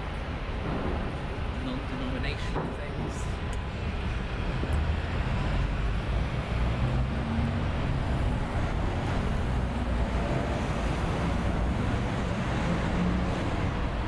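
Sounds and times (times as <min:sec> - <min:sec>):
road traffic: 0:00.0 - 0:14.0
wind rumble on microphone: 0:02.5 - 0:14.0.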